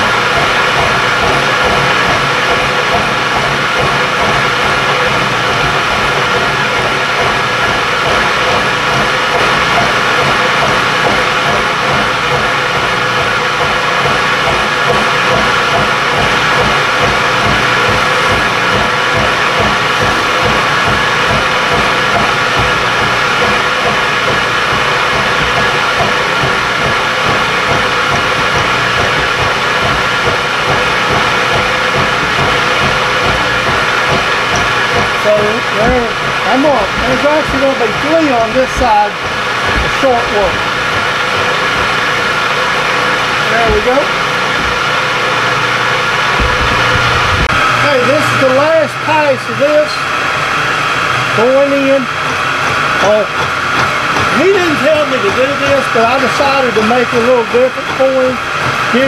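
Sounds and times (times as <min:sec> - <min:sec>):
milling machine cutting metal: 0:00.0 - 0:59.0.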